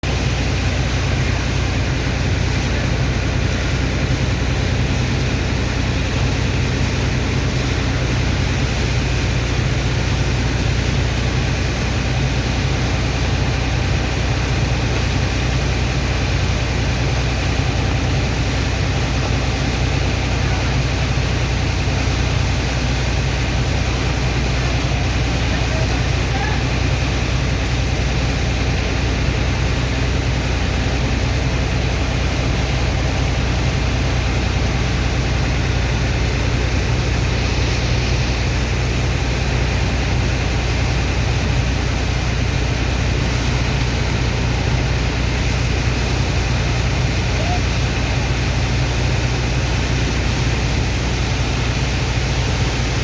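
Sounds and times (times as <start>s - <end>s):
diesel pump engine running: 0.0s - 53.0s.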